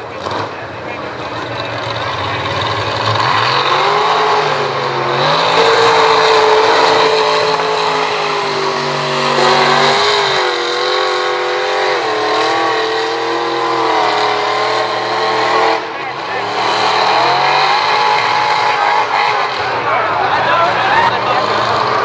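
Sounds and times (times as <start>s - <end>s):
truck engine revving high: 0.0s - 22.0s.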